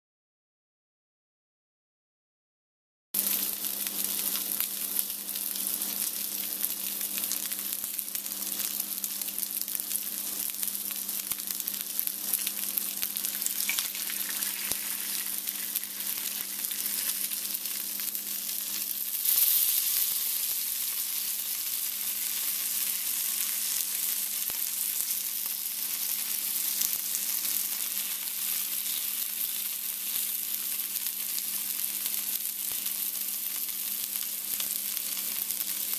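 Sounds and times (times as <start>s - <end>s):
meat sizzling in a frying pan: 3.2s - 35.9s.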